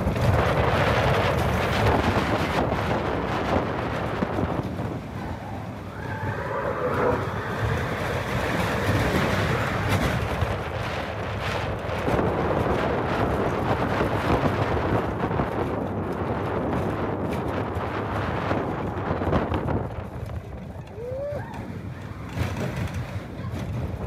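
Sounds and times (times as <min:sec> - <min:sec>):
roller coaster rumbling on track: 0:00.0 - 0:24.0
wind buffeting microphone: 0:00.0 - 0:24.0.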